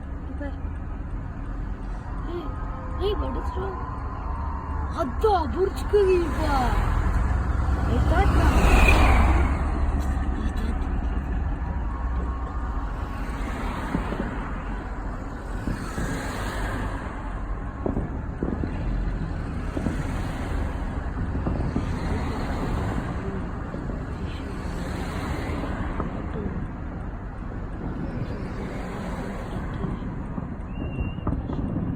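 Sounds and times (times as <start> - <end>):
low city rumble: 0.0 - 31.9.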